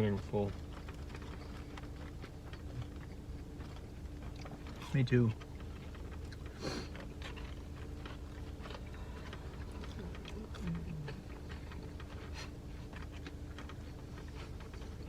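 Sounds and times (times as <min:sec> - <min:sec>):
car cabin hum: 0:00.0 - 0:15.0
people chewing: 0:00.0 - 0:15.0.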